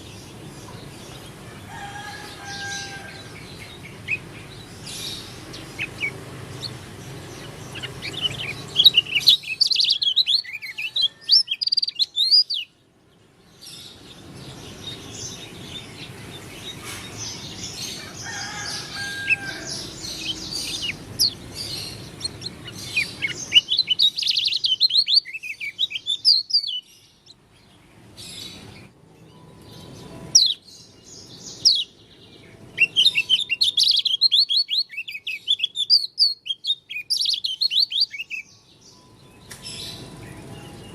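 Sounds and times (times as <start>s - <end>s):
songbird twittering high chirps: 0.0s - 40.9s.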